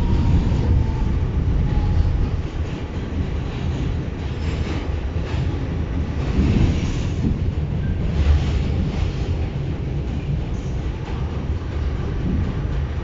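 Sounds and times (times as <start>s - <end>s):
subway train wheels on rails: 0.0s - 13.0s.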